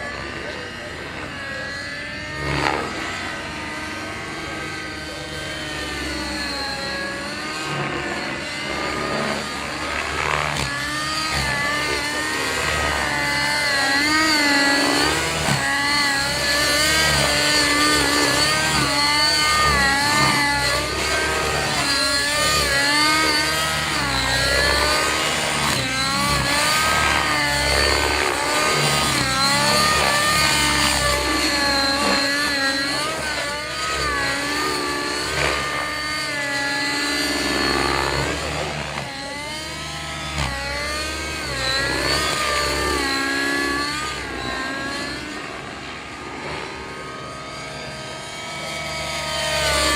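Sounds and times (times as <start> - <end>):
model helicopter motor and rotor: 0.0 - 49.9.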